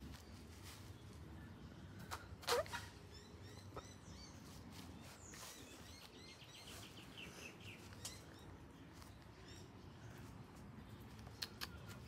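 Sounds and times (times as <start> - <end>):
faint bird chirping: 0.0 - 12.0
low steady background hum: 0.0 - 12.0.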